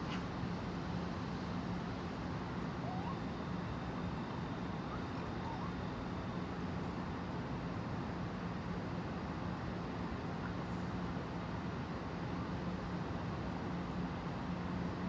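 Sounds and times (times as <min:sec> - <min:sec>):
urban background hum: 0:00.0 - 0:15.0.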